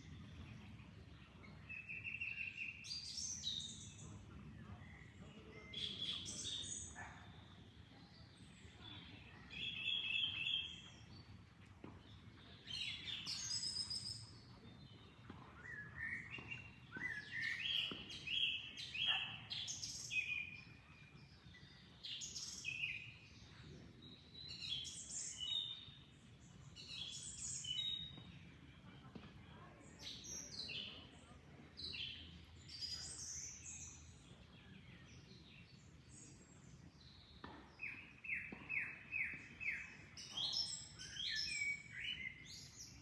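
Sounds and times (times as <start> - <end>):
songbirds chirping and singing: 0.0 - 43.0.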